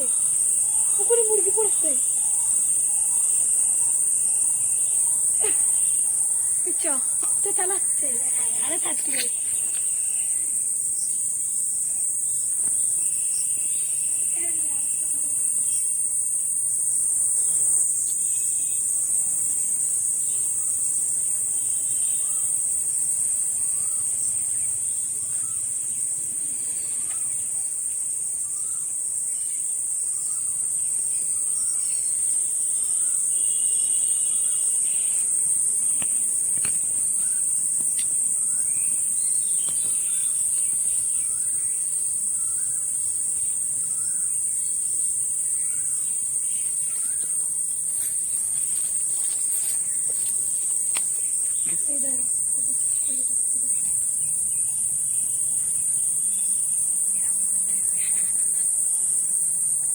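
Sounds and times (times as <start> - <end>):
insect short chirps: 0.0 - 11.3, 20.2 - 59.7
insects high-pitched buzz: 0.0 - 59.9.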